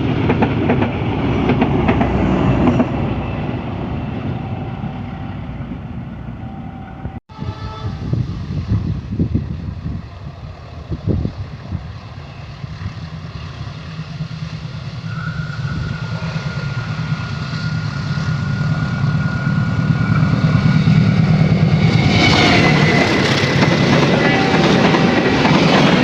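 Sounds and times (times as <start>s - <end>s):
train wheels on rails: 0.0s - 5.0s, 8.2s - 26.0s
diesel locomotive engine running: 0.0s - 26.0s.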